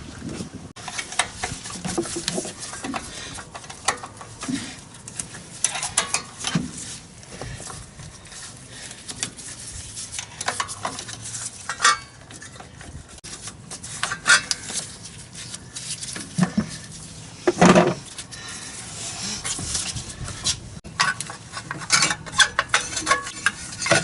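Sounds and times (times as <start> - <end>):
hand tools clinking and scraping: 0.8 - 24.0.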